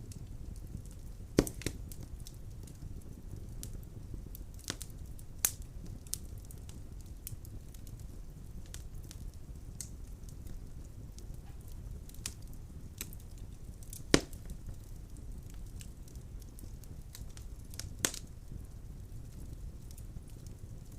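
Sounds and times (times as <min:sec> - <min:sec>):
burning logs crackling: 0:00.0 - 0:20.9
fire flames rumbling: 0:00.0 - 0:20.9.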